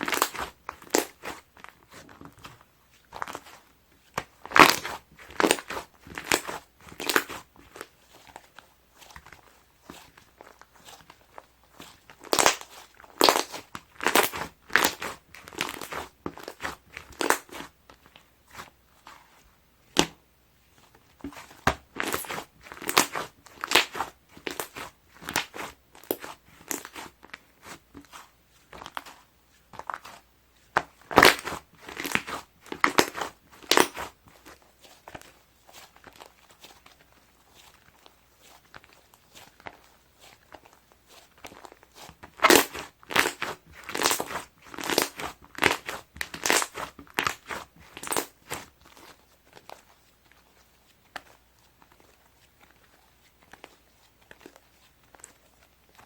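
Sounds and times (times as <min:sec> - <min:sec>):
hands squishing slime: 0:00.0 - 0:56.0.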